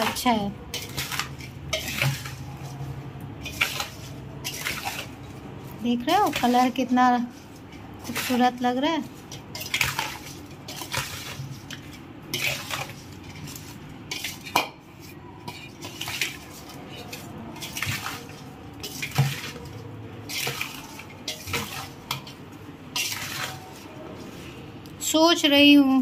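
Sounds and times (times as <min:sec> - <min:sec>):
spoon scraping a steel bowl: 0:00.0 - 0:05.3, 0:06.2 - 0:24.6
wet squelch of chunks: 0:00.0 - 0:24.9.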